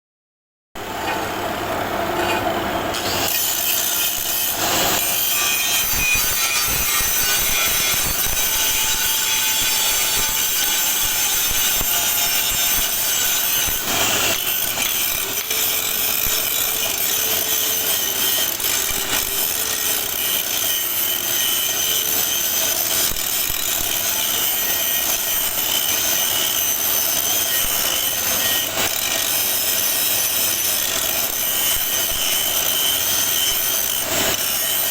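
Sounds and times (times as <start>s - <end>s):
angle grinder grinding metal: 2.1s - 34.9s.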